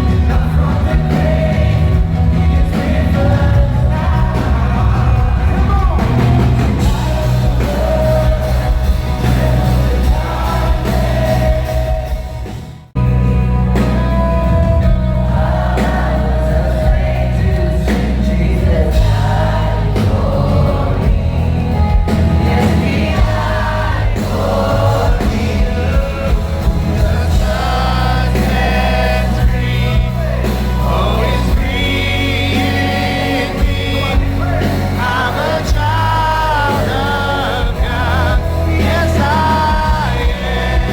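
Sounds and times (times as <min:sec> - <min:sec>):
voices singing together: 0:00.0 - 0:12.9, 0:13.9 - 0:40.9
worship band with heavy bass: 0:00.0 - 0:40.9.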